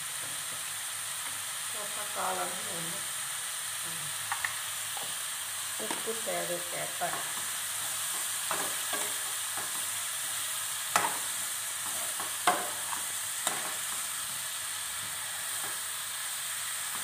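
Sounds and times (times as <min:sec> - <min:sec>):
mushrooms sizzling in oil: 0:00.0 - 0:17.0.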